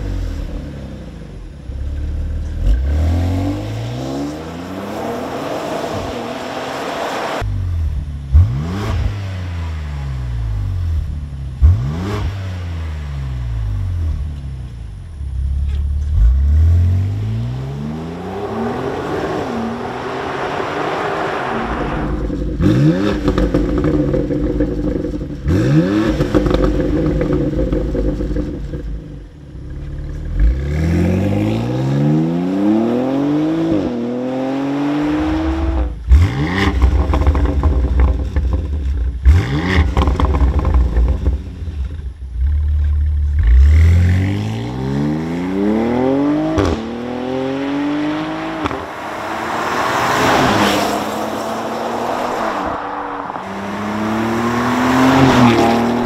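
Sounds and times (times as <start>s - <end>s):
engine revving through exhaust: 1.6s - 6.8s, 7.4s - 14.3s, 15.9s - 52.0s, 53.4s - 56.0s.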